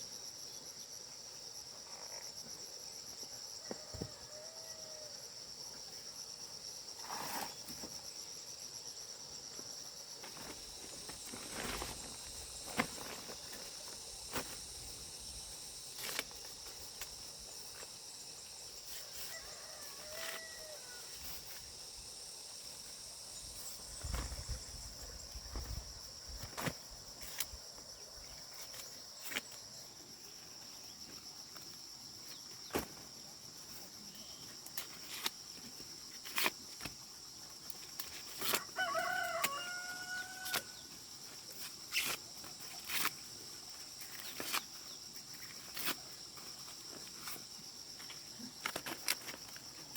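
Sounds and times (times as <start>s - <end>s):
insect chorus with pulsing trill: 0.0s - 49.9s.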